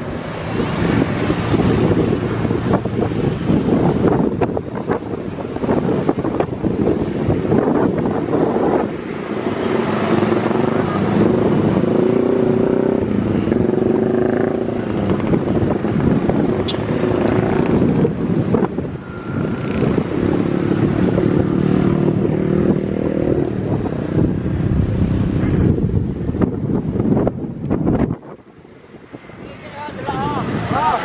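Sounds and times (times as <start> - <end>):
jet engines roaring: 0.0 - 22.3, 23.4 - 31.0.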